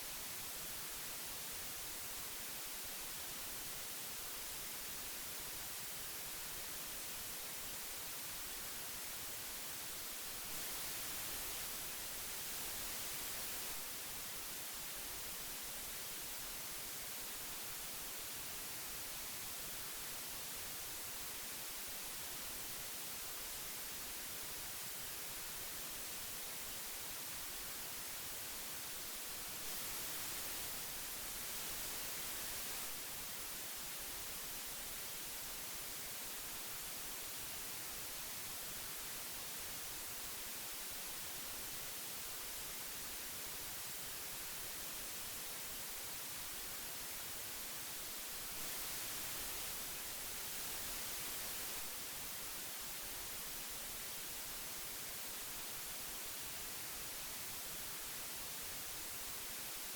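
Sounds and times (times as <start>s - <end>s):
old audio tape hiss: 0.0s - 59.9s.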